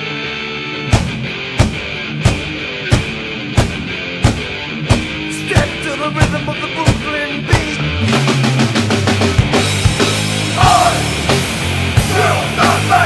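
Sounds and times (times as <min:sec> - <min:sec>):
rock music with guitar and drums: 0:00.0 - 0:13.0.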